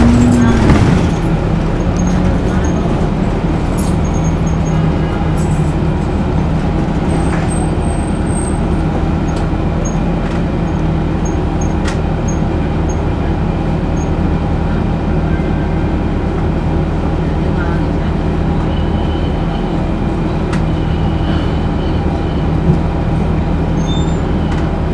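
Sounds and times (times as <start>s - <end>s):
bus engine drone: 0.0s - 24.9s.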